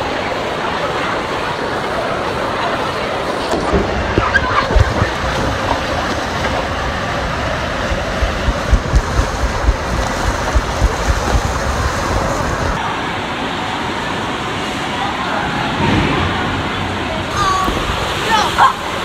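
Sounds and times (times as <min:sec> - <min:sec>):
water rushing in slide tube: 0:00.0 - 0:19.0.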